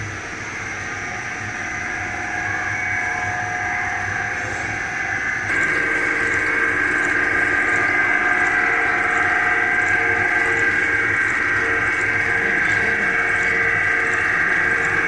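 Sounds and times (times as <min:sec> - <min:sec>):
high-pitched machine whine: 0:00.0 - 0:15.0
machine hum: 0:00.0 - 0:15.0.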